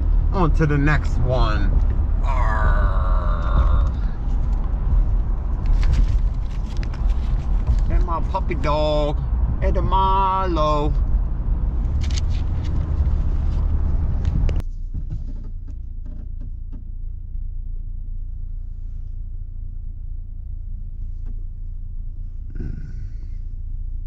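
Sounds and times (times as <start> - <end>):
low engine rumble: 0.0 - 24.0
road and engine noise: 0.0 - 24.0.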